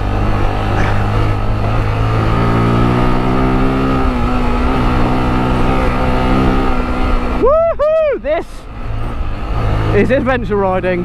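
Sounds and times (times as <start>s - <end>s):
motorcycle engine running: 0.0s - 7.5s, 8.2s - 11.0s.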